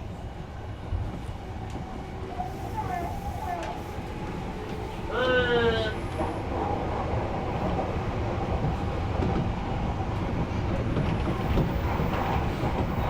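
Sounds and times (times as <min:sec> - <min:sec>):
train wheel-on-rail rumble: 0:00.0 - 0:13.0.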